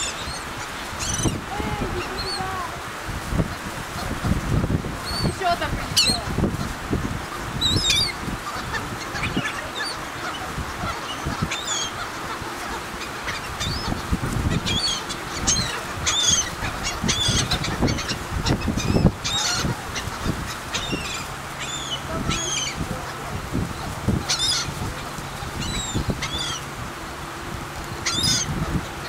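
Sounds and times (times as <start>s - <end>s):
gulls calling: 0.0s - 29.0s.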